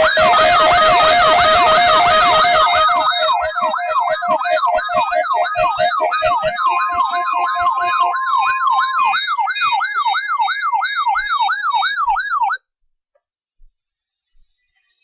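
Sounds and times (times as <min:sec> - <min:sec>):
electronic siren whooping: 0:00.0 - 0:12.6
steady beeping tones: 0:00.0 - 0:12.6.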